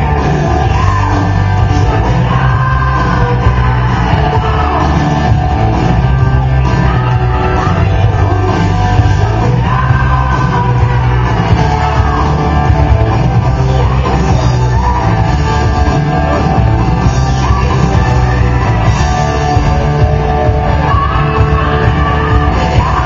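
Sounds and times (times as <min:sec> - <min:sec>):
loud rock music with singing: 0:00.0 - 0:23.0.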